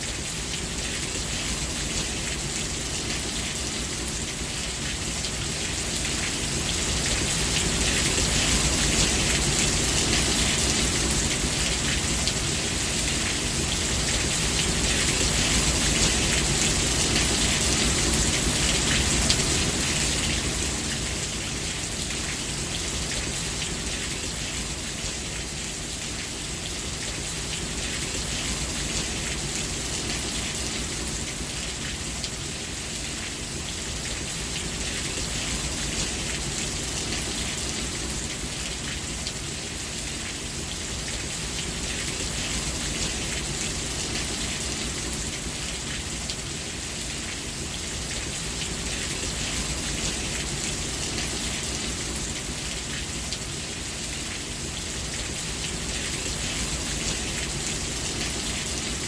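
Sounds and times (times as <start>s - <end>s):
rain patter on surfaces: 0.0s - 59.0s.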